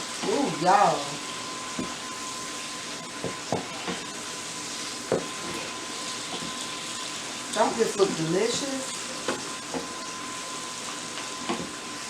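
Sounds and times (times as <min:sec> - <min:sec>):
mushrooms sizzling in a pan: 0:00.0 - 0:12.0.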